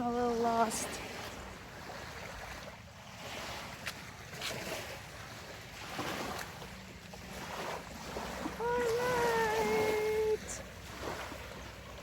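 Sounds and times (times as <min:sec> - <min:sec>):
sea waves washing ashore: 0:00.0 - 0:12.0.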